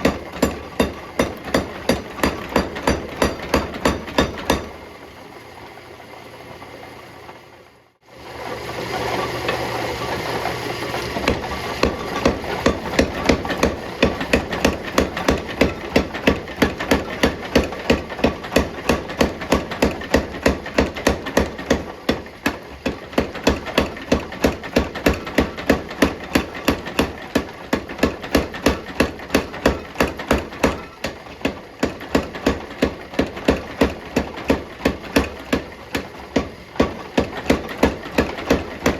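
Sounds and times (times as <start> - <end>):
hammer striking hot steel: 0.0 - 4.8, 11.3 - 38.9.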